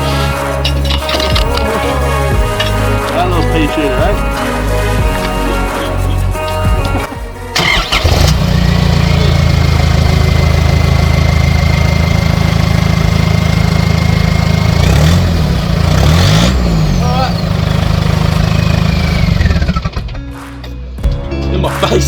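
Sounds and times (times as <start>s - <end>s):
diesel engine cranking and idling: 0.0s - 20.2s.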